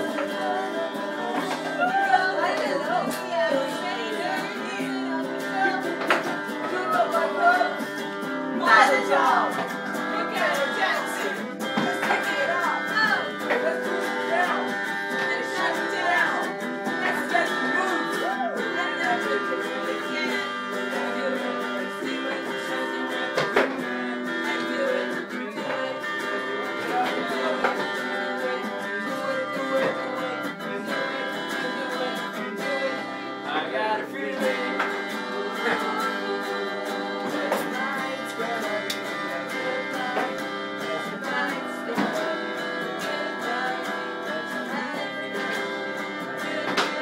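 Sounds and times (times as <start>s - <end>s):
electric guitar through amplifier: 0.0s - 47.0s.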